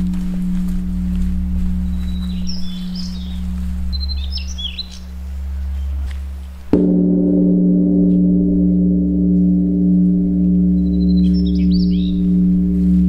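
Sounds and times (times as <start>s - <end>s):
birds chirping: 0.0s - 13.0s
low hum: 0.0s - 13.0s
temple bell ringing: 0.0s - 13.0s.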